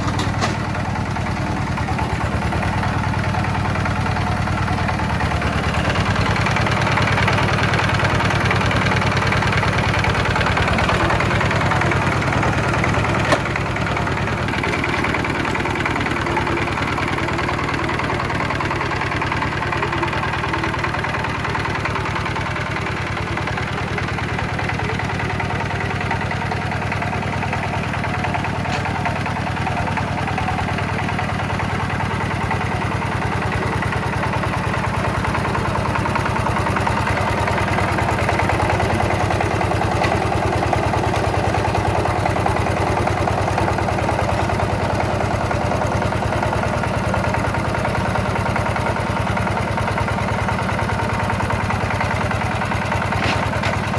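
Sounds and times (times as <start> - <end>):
tiller engine idling: 0.0 - 53.9.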